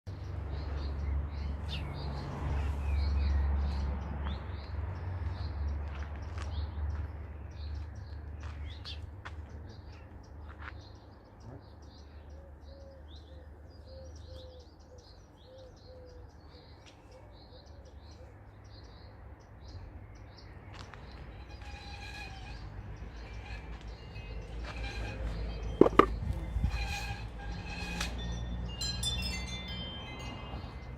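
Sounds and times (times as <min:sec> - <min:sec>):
small birds chirping: 0:00.1 - 0:27.0.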